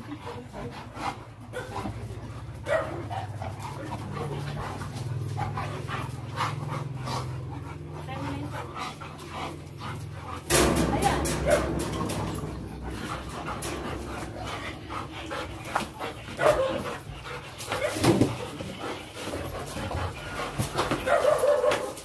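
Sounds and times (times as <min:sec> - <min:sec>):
dogs barking and whining: 0:00.0 - 0:22.0.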